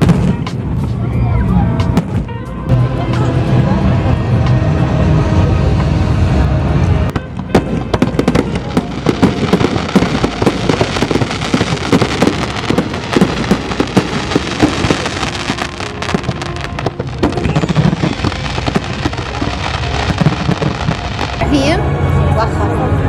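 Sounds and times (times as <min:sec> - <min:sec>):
fireworks cracking and banging: 0:00.0 - 0:21.5.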